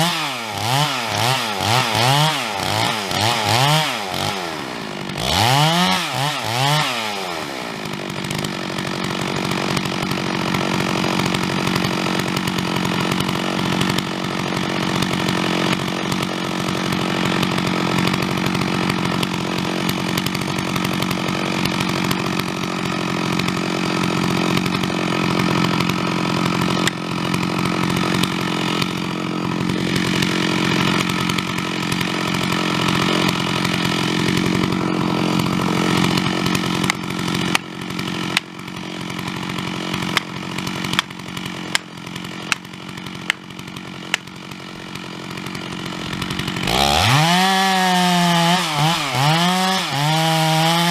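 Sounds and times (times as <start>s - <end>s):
chainsaw revving and cutting: 0.0s - 50.9s.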